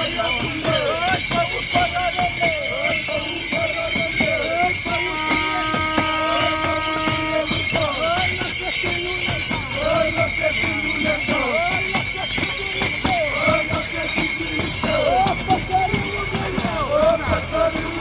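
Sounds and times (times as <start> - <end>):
costume bells jingling: 0.0 - 18.0
frame drums beating: 0.0 - 18.0
voices calling: 0.0 - 18.0.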